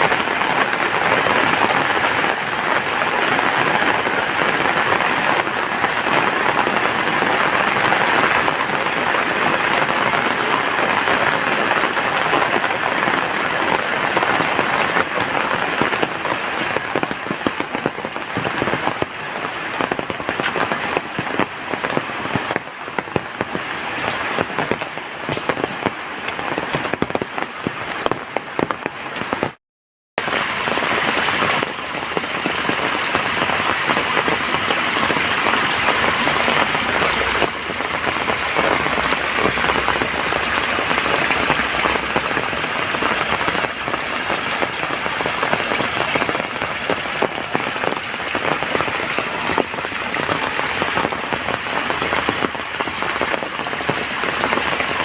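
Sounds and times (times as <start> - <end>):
heavy rain falling: 0.0 - 29.6, 30.2 - 55.0.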